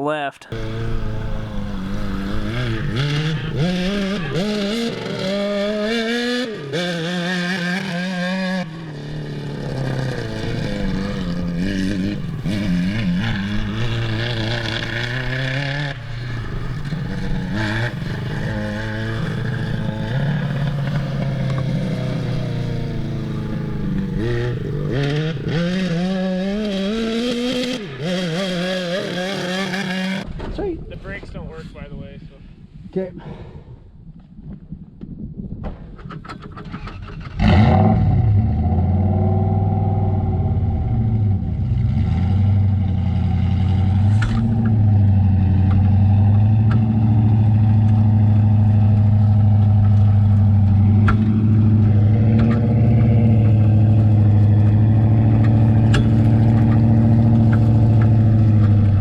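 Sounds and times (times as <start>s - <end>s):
motorcycle engine revving: 0.5s - 30.4s, 36.4s - 59.0s.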